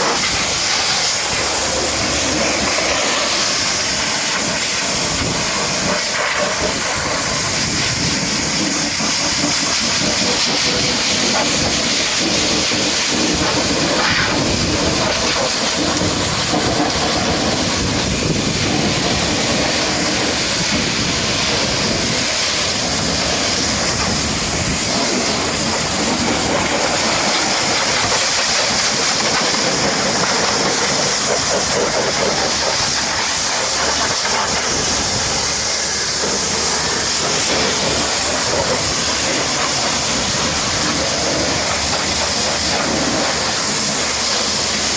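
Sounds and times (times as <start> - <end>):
pressure washer spraying water: 0.0 - 44.9.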